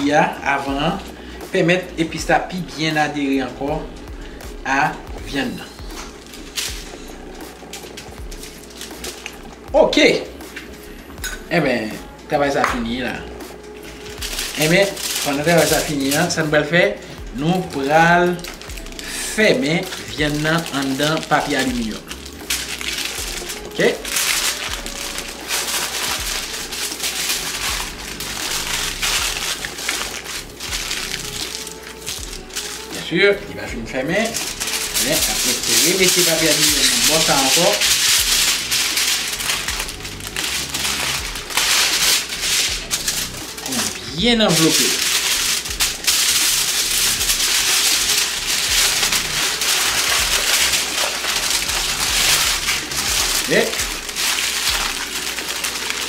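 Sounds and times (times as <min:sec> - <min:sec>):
aluminium foil crinkling: 0:00.0 - 0:56.0.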